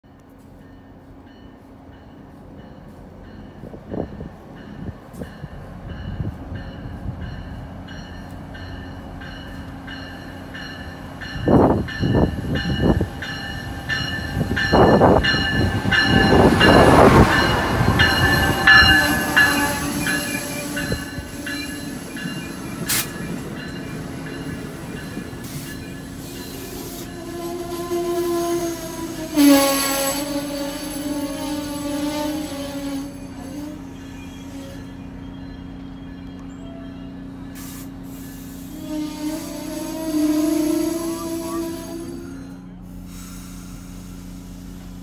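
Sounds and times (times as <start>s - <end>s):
train rushing past: 0.7s - 45.0s.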